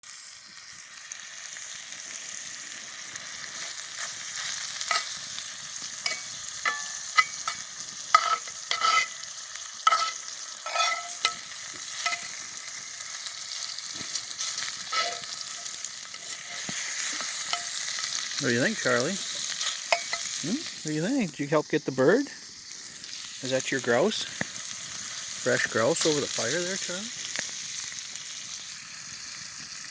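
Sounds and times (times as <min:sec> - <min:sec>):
fire pops and crackles: 0:00.0 - 0:29.9
meat sizzling over campfire: 0:00.0 - 0:29.9.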